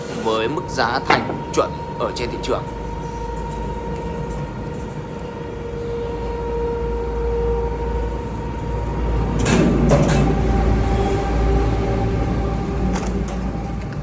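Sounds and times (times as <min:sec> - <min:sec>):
low rumble: 0:00.0 - 0:14.0
machinery humming: 0:00.0 - 0:14.0.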